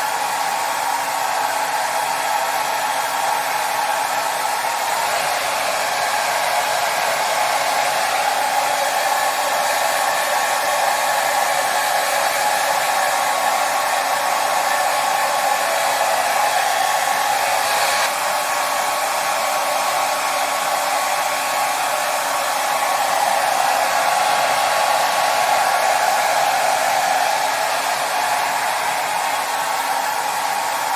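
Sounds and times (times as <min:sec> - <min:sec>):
hair dryer blowing air: 0:00.0 - 0:30.9.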